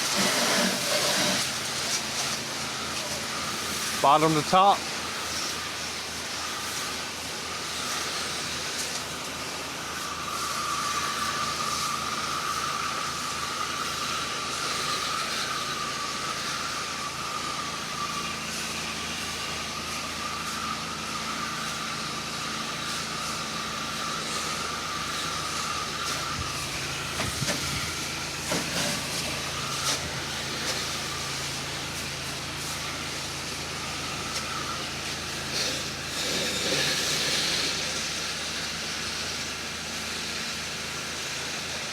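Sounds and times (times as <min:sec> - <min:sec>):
low engine hum: 0:00.0 - 0:41.9
pressure washer spray hissing: 0:00.0 - 0:41.9.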